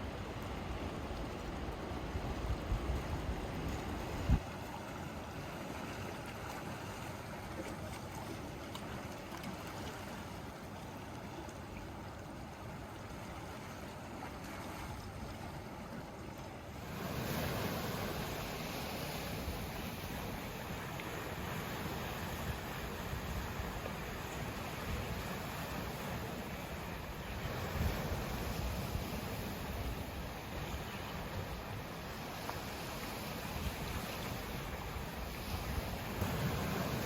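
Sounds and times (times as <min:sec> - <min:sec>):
sea waves washing on shore: 0:00.0 - 0:37.0.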